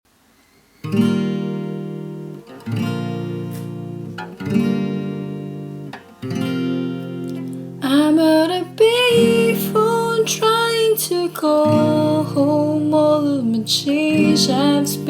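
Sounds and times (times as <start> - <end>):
acoustic guitar chords strummed: 0.8 - 15.0.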